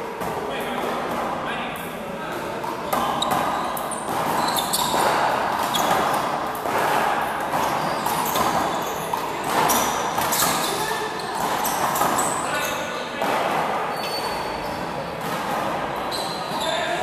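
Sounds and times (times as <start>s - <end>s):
shoes squeaking on court: 2.6s - 13.2s, 13.8s - 17.0s.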